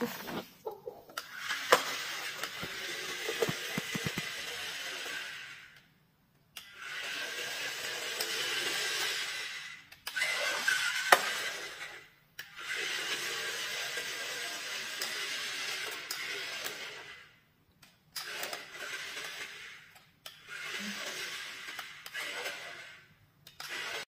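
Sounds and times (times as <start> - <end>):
toy car wheels rolling on wood: 0.0 - 5.9, 6.6 - 17.4, 18.2 - 24.0.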